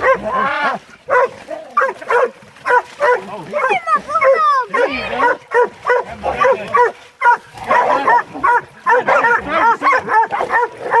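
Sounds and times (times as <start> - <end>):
dogs barking: 0.0 - 0.4, 1.1 - 11.0.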